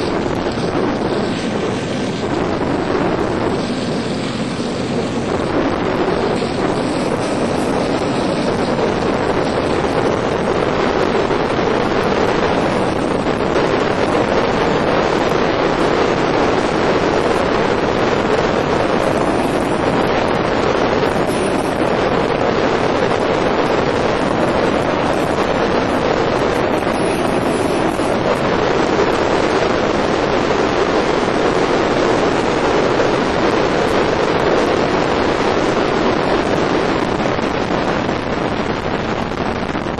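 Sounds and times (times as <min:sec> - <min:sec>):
water rushing along hull: 0:00.0 - 0:39.9
wind buffeting microphone: 0:00.0 - 0:39.9.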